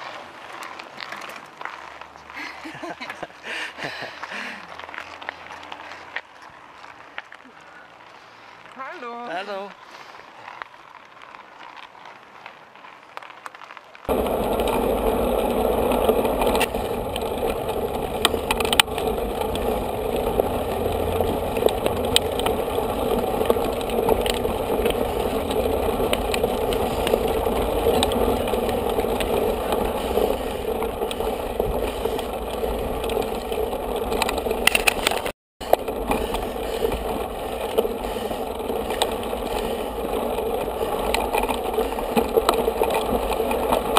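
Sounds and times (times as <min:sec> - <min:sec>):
bike rattles and clicks: 0:00.0 - 0:43.9
tyres crunching on gravel: 0:00.0 - 0:43.9.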